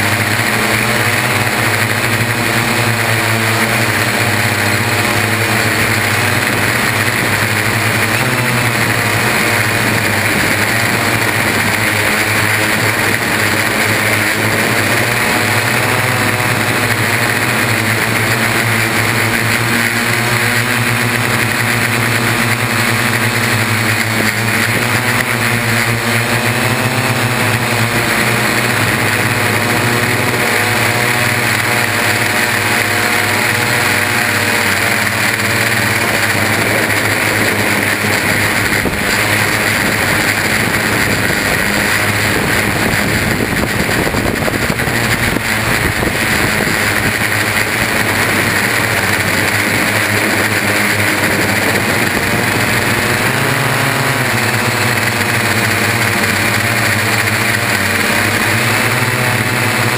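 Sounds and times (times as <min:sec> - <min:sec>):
drone motors and propellers buzzing: 0:00.0 - 0:59.9.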